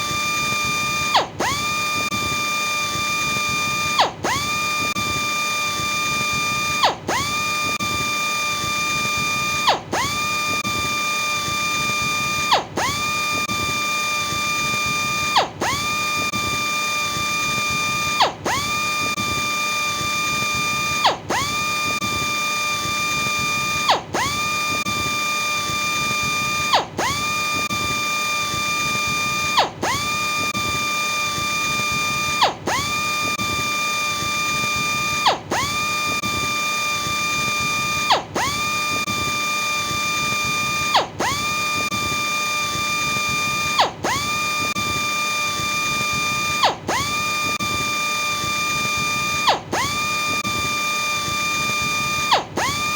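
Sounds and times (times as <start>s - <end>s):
power sander motor whining: 0.0s - 52.9s.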